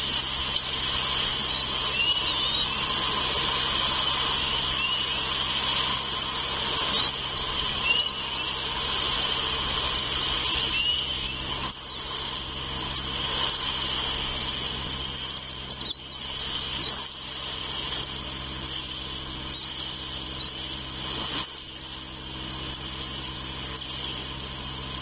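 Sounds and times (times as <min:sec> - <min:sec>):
high insect drone: 0:00.0 - 0:25.0
low steady hum: 0:00.0 - 0:25.0.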